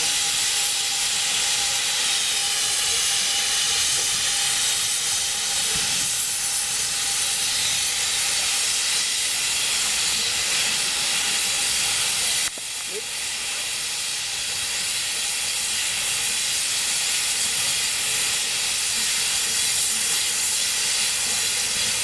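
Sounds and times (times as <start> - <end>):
steam locomotive venting steam: 0.0 - 22.0.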